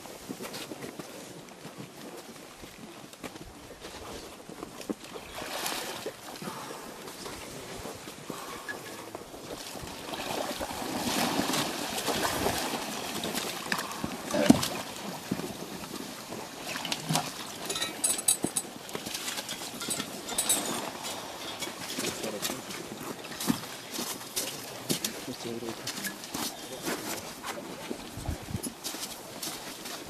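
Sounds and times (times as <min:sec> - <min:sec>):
water sloshing and gurgling: 0:03.8 - 0:30.0.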